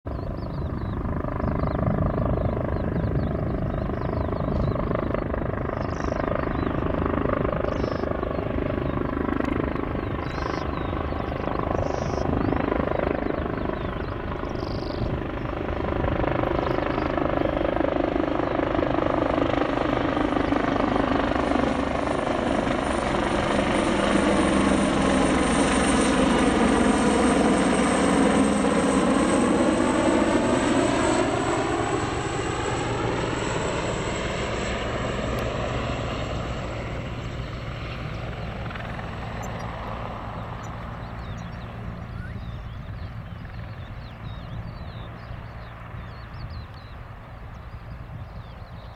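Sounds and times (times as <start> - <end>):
helicopter rotor beat: 0.1 - 48.9
high turbine whine: 0.1 - 48.9.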